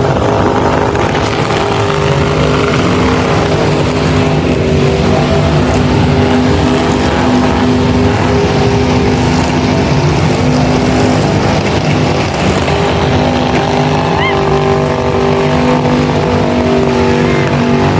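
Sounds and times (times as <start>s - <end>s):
car engine at high revs: 0.0s - 17.9s
spinning tyres rushing: 0.0s - 17.9s.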